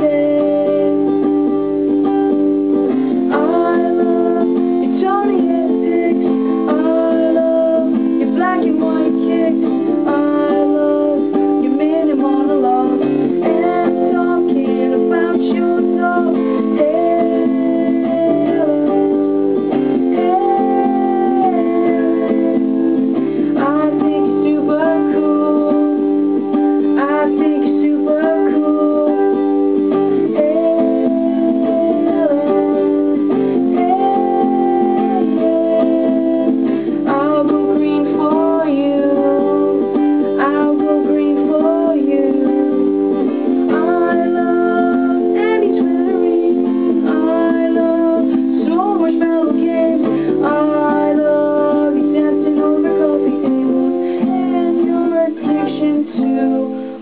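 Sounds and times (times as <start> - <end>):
acoustic guitar strumming chords: 0.0 - 57.0
person singing: 0.0 - 57.0.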